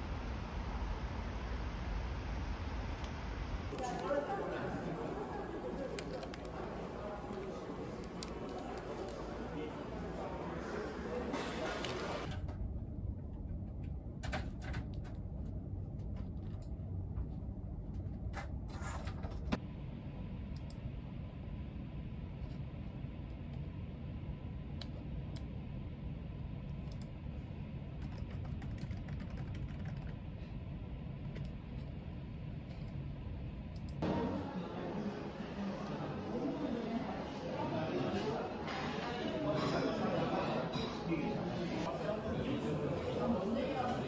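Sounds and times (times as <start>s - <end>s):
low room hum: 0.0s - 44.0s.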